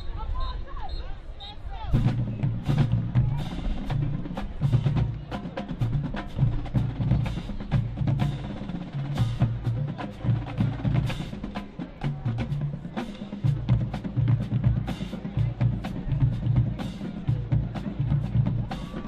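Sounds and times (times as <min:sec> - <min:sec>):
low drum notes: 0:01.9 - 0:19.0.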